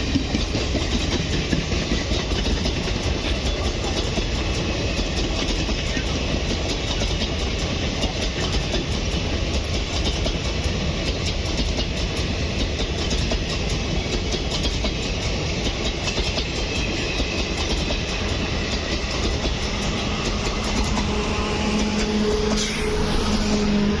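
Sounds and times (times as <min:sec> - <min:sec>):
wheels clicking over rail joints: 0:00.0 - 0:22.2
train rumbling on rails: 0:00.0 - 0:24.0.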